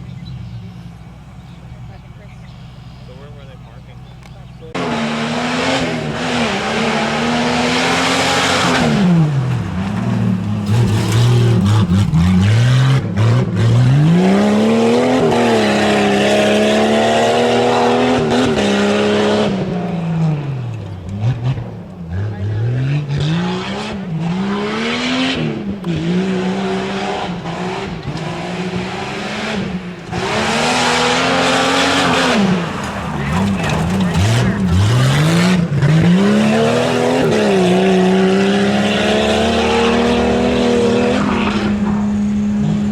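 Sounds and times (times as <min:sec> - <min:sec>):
truck engine revving hard: 0:04.6 - 0:42.9.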